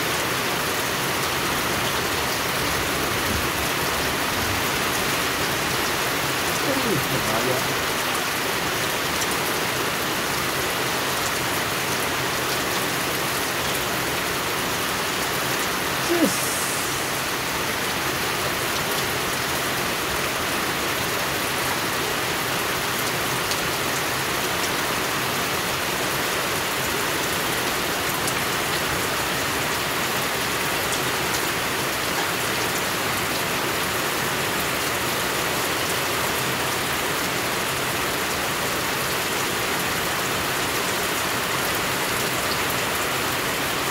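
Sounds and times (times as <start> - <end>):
rain falling on pond and stone: 0.0 - 43.9.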